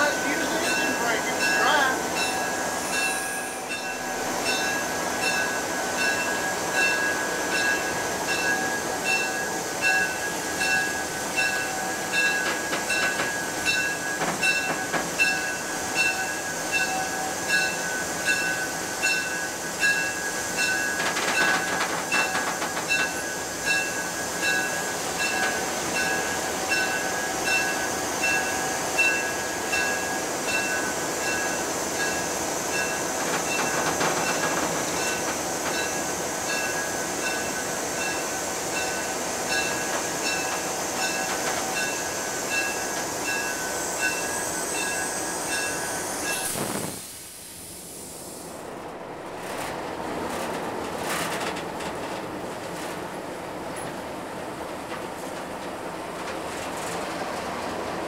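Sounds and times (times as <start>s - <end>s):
locomotive running: 0.0s - 47.0s, 48.1s - 58.0s.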